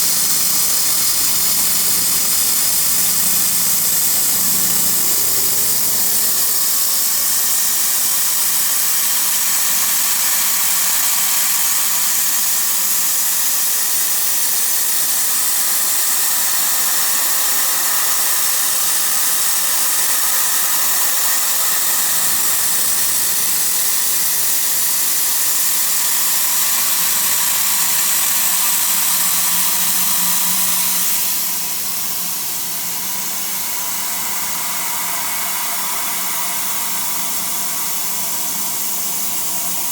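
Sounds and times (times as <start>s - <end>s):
milling machine hissing and whining: 0.0s - 39.9s.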